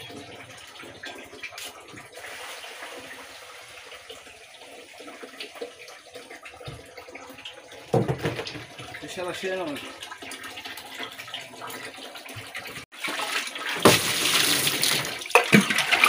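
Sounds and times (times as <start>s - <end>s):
water filling a container: 0.0s - 16.0s.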